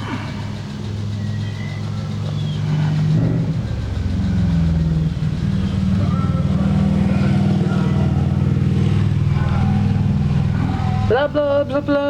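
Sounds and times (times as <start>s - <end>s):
engine rumbling: 0.0s - 12.0s
faint voices: 0.0s - 12.0s.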